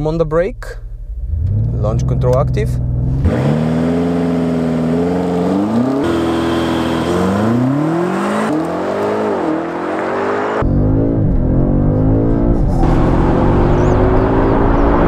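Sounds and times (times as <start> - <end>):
car engine accelerating hard: 1.2 - 15.0.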